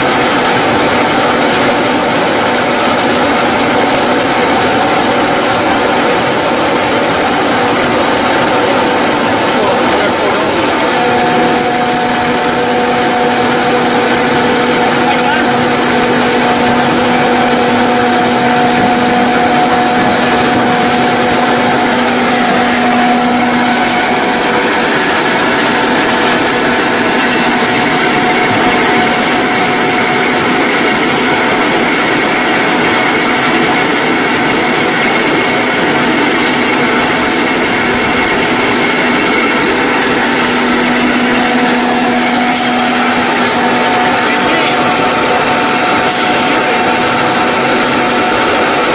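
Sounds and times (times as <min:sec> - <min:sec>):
milling machine whirring and grinding: 0:00.0 - 0:48.9
steady hum: 0:00.0 - 0:48.9.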